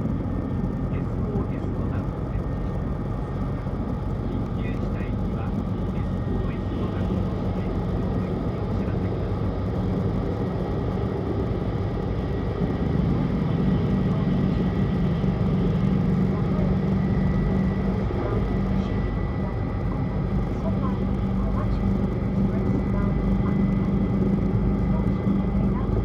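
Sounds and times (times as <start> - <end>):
train cabin running hum: 0.0 - 26.0.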